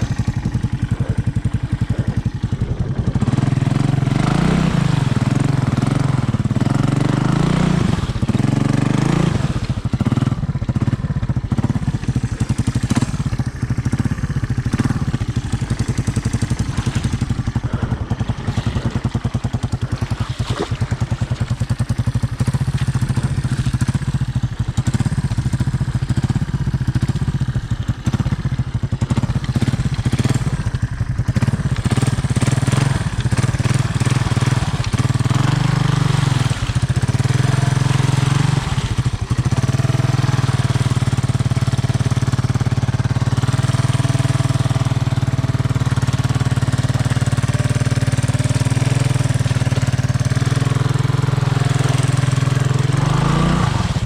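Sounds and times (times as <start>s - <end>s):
four-stroke engine running: 0.0s - 54.0s.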